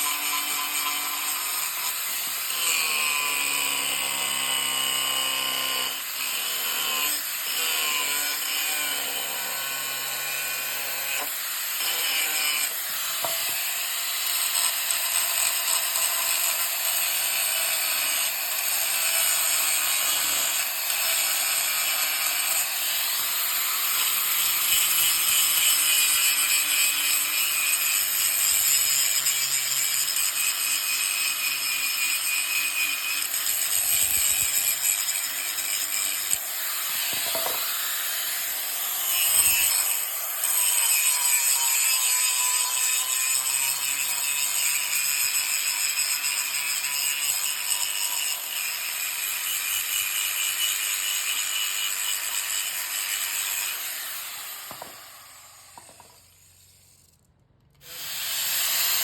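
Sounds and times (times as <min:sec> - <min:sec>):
power tool running: 0:00.0 - 0:44.8, 0:49.8 - 0:57.2, 0:57.8 - 0:59.0.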